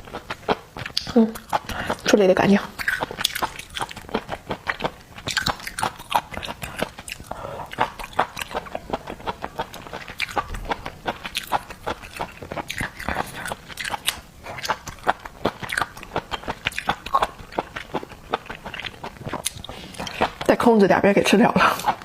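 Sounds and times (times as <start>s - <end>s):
wet chewing and smacking: 0.0s - 20.7s, 21.6s - 22.0s.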